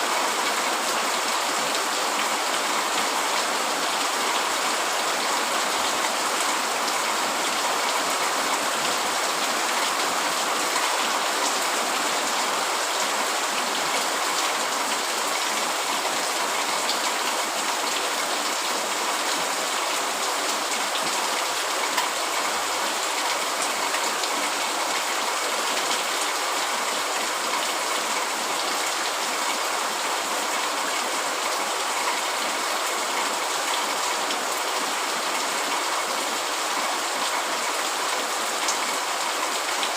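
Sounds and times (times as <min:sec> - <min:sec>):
heavy rain pattering on a tent: 0:00.0 - 0:39.9.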